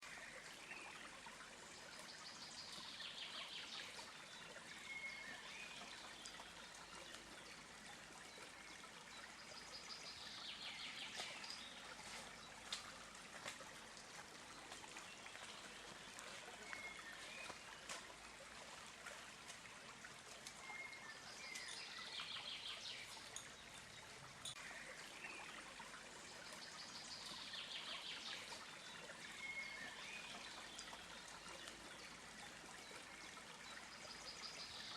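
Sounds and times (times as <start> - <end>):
water trickling: 0.0 - 34.9.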